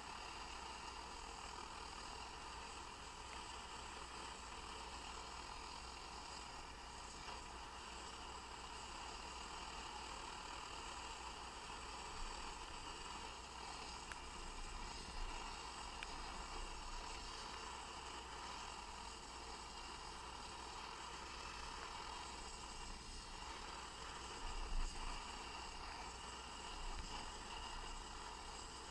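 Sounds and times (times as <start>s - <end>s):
camping stove burner hissing: 0.0s - 28.9s.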